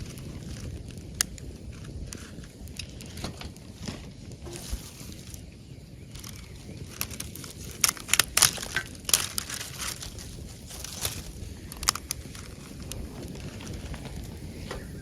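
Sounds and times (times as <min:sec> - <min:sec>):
campfire crackling and popping: 0:00.0 - 0:15.0
low rush of fire: 0:00.0 - 0:15.0.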